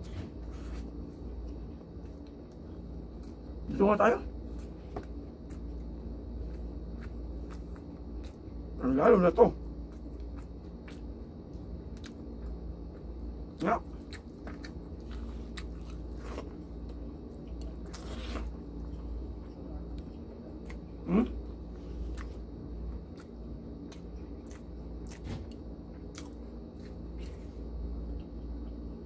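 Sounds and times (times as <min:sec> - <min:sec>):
person chewing food: 0:04.4 - 0:08.8, 0:09.6 - 0:29.0.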